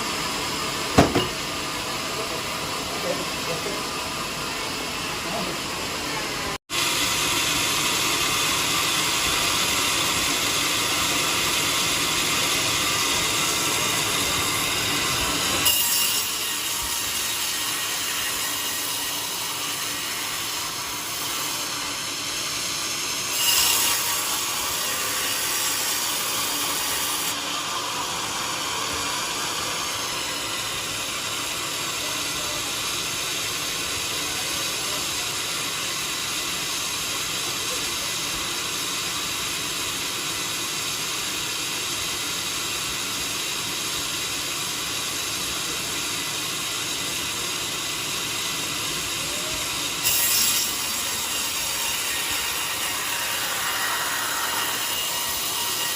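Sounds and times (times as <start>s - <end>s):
band saw cutting log: 0.0s - 55.9s.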